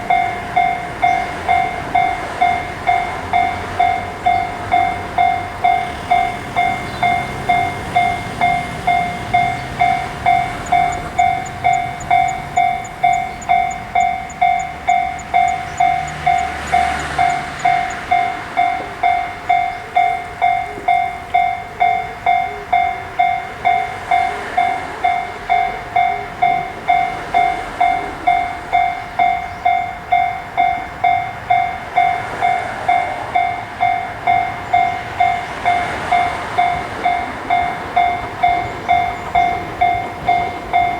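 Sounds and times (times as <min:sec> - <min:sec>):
level-crossing warning bell: 0:00.0 - 0:40.9.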